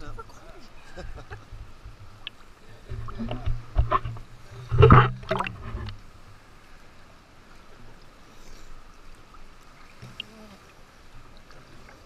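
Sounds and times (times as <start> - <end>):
sea water sloshing and splashing: 0.0 - 12.0.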